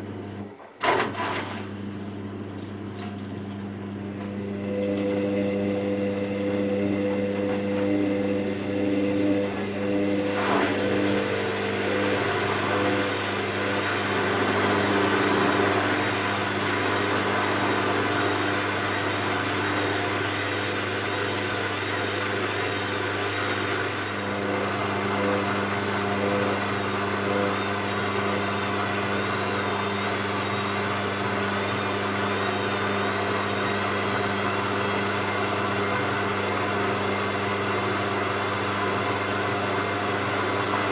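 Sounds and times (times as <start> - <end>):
washing machine motor hum: 0.0 - 40.9
wavering high whine: 4.2 - 40.9.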